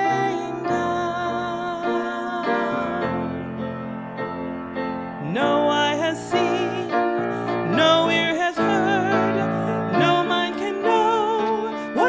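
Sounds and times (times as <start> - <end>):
woman singing: 0.0 - 3.5, 5.2 - 12.0
piano accompaniment: 0.0 - 12.0.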